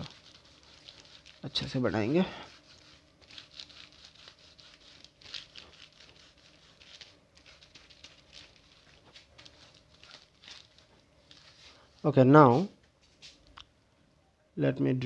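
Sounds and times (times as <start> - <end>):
rubbing marker off plastic: 0.0 - 12.6.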